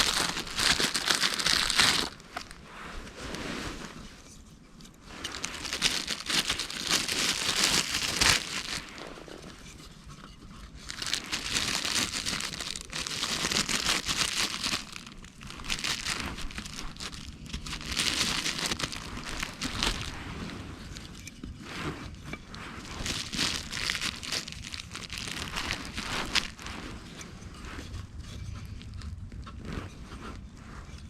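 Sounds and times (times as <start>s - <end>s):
material crinkling and rustling: 0.0s - 31.0s.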